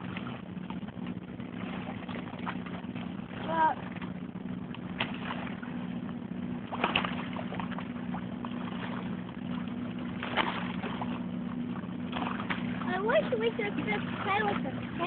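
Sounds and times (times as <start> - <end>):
low two-note hum: 0.0 - 15.0.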